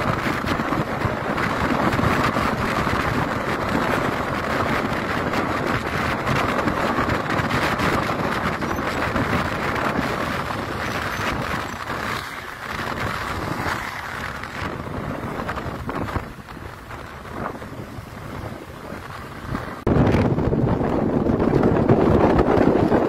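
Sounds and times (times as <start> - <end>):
vehicle road noise: 0.0 - 23.0
wind rushing over microphone: 0.0 - 23.0.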